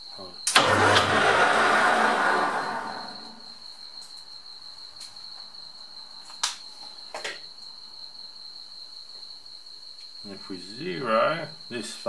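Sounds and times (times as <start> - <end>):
cricket trilling: 0.0 - 0.5, 2.6 - 12.0.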